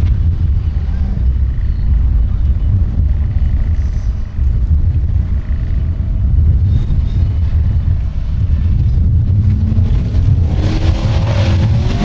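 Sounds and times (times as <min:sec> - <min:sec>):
buggy engine rumbling under load: 0:00.0 - 0:12.0.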